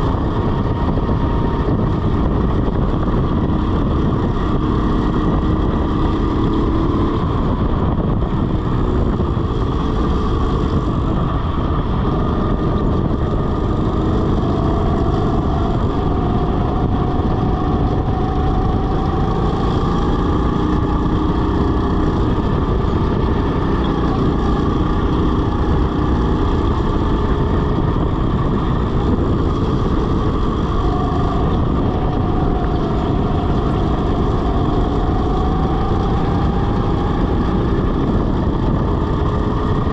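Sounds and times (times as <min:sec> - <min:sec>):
go-kart motor drone: 0:00.0 - 0:39.9
low rumble and rushing noise: 0:00.0 - 0:39.9.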